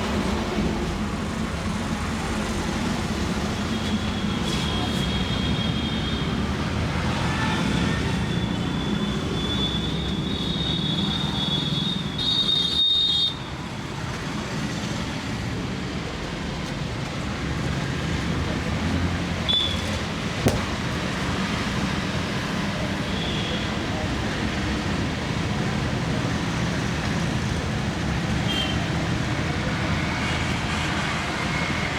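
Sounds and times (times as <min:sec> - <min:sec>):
street traffic noise: 0:00.0 - 0:31.9.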